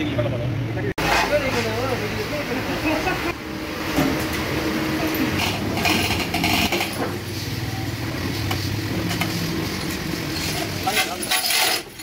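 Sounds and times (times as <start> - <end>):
engine running: 0.6 - 11.2.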